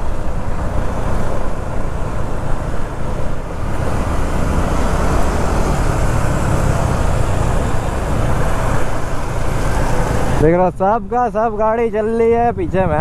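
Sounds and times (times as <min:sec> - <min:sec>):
surrounding traffic noise: 0:00.0 - 0:13.0.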